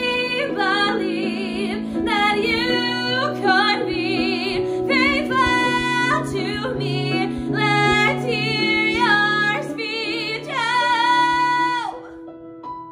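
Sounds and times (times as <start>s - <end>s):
sustained backing chords: 0.0s - 12.9s.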